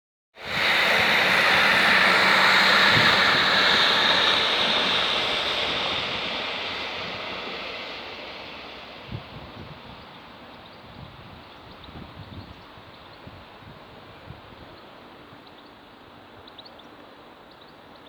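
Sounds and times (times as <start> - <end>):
train passing at speed: 0.4 - 18.0.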